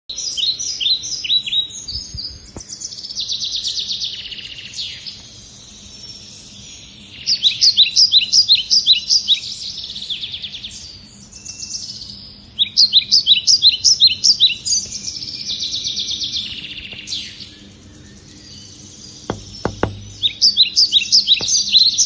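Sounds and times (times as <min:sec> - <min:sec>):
songbirds chirping and trilling: 0:00.1 - 0:22.0.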